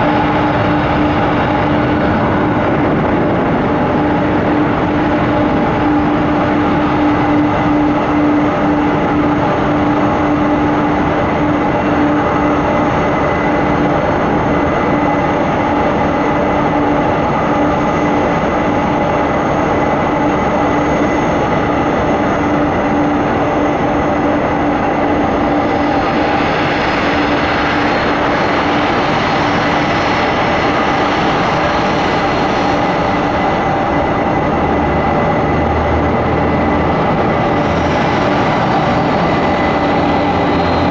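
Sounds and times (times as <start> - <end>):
jet engine whine: 0.0 - 40.9
jet engines roaring: 0.0 - 40.9.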